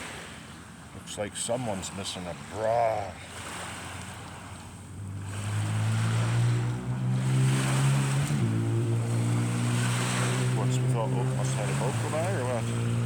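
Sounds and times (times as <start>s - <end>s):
motorboat engine drone: 0.0s - 13.0s
surf washing: 0.0s - 13.0s.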